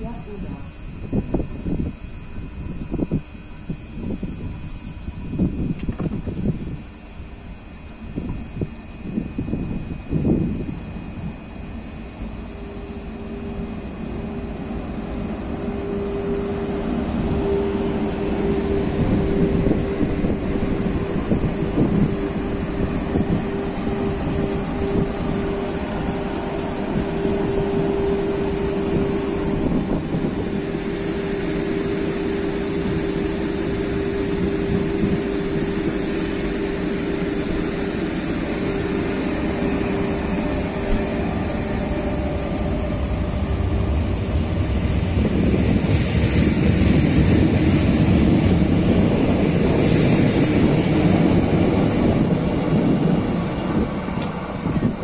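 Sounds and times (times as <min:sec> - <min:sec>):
train electrical hum: 0:00.0 - 0:55.0
wheels rumbling on rails: 0:00.0 - 0:55.0.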